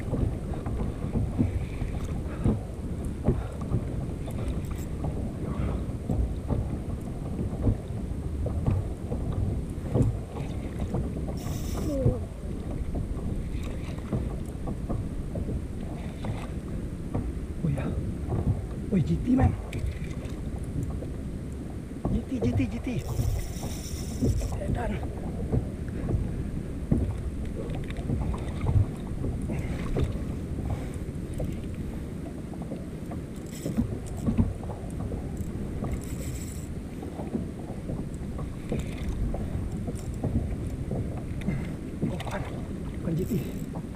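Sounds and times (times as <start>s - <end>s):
water lapping against kayak hull: 0.0s - 43.9s
wind buffeting microphone: 0.0s - 43.9s.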